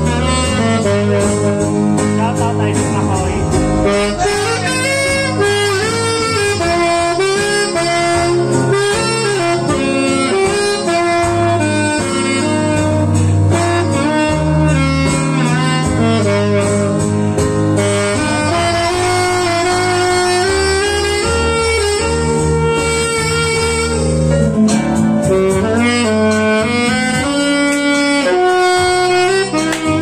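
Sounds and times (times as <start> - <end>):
alto saxophone jazzy melody: 0.0 - 30.0
steady bass line: 0.0 - 30.0.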